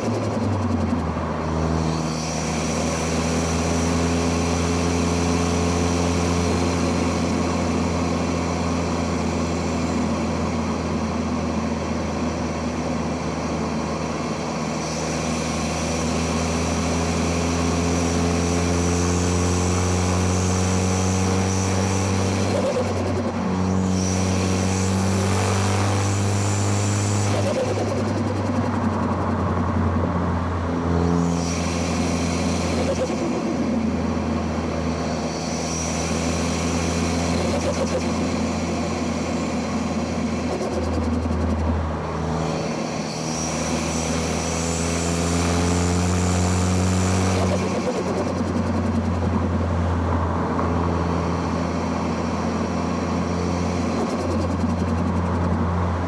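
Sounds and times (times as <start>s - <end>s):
car engine pulling hard: 0.0s - 56.0s
engine shifting gears: 0.0s - 56.0s.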